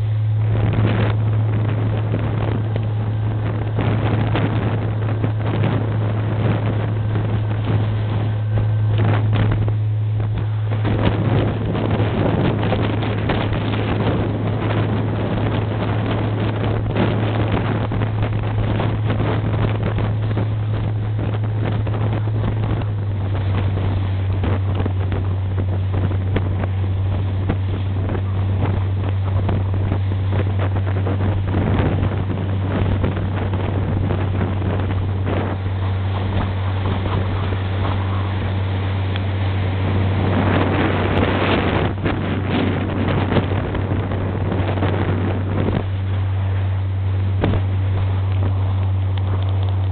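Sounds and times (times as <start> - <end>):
boat engine humming: 0.0 - 49.9
wake rushing: 0.0 - 49.9
wind buffeting microphone: 0.0 - 49.9.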